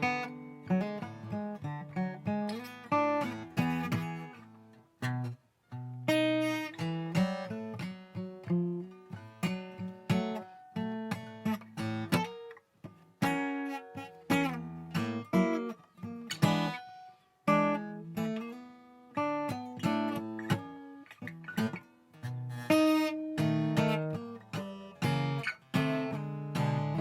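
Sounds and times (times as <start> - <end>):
acoustic guitar blues: 0.0 - 27.0.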